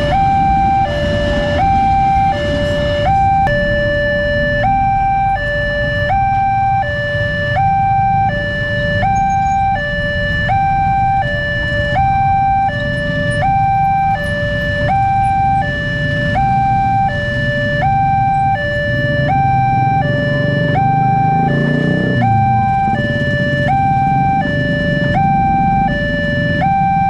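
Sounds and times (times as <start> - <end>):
passing traffic rumble: 0.0 - 27.0
two-tone level-crossing alarm: 0.0 - 27.0.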